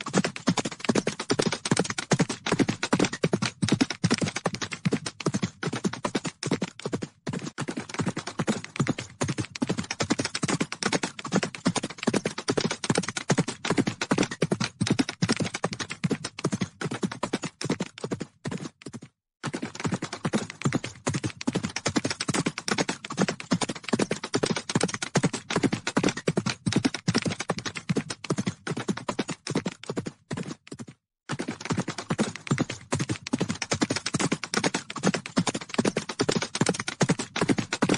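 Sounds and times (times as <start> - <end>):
horses galloping hoofbeats: 0.0 - 37.9.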